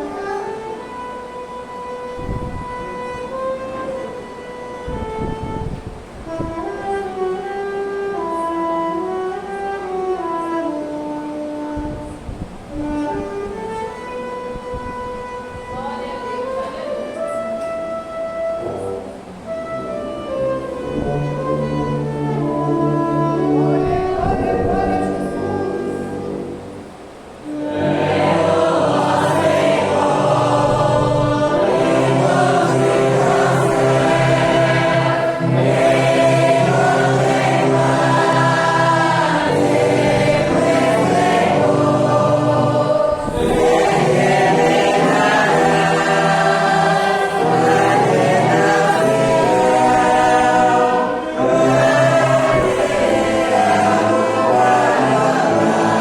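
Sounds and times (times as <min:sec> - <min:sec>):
congregation singing a hymn: 0:00.0 - 0:56.0
strings and brass orchestra: 0:00.0 - 0:56.0.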